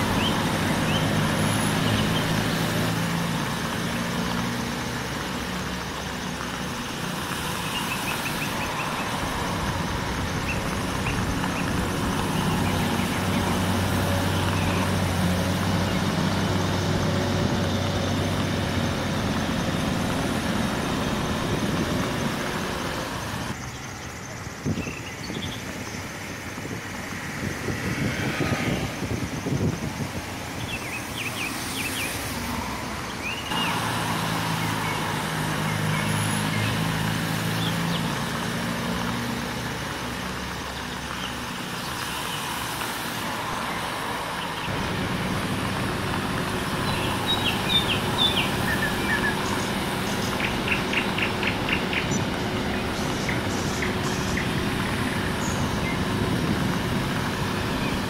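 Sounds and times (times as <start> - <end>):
wheel loader engine running: 0.0 - 24.4, 33.5 - 58.0
tractor diesel engine running: 0.0 - 24.7, 32.9 - 58.0
birds chirping: 0.0 - 27.9, 28.7 - 58.0.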